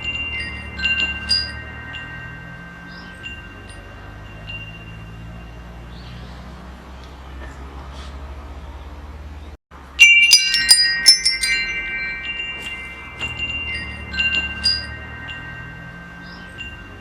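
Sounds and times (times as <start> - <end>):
metal wind chimes ringing: 0.0 - 6.7, 9.8 - 17.0.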